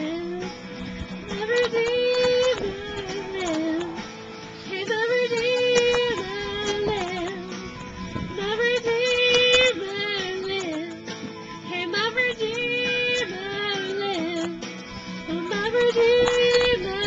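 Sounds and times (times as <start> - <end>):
woman singing into microphone: 0.0 - 0.6, 1.3 - 17.0.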